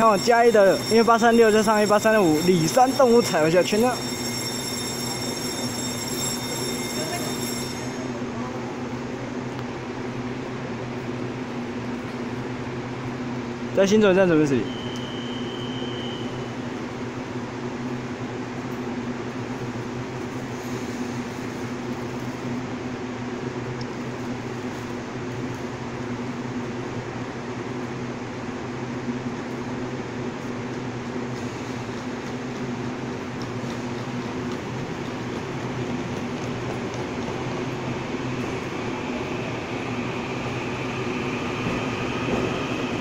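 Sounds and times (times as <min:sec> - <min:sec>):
train equipment humming: 0:00.0 - 0:43.0.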